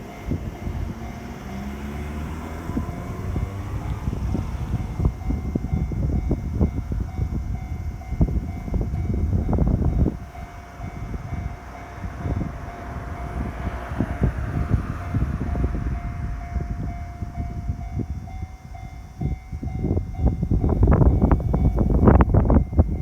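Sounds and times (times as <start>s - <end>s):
crossing alarm ringing: 0.0s - 23.0s.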